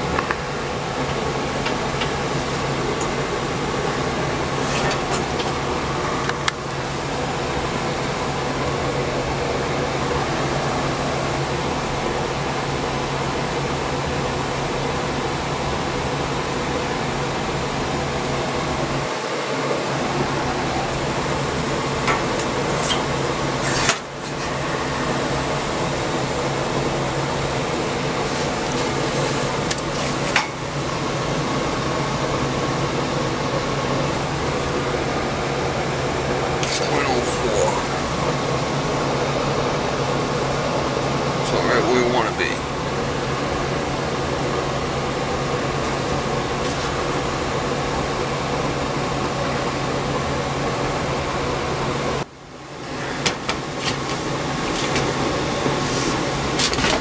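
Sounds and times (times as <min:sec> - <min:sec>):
furnace blower and burners whooshing: 0:00.0 - 0:57.0.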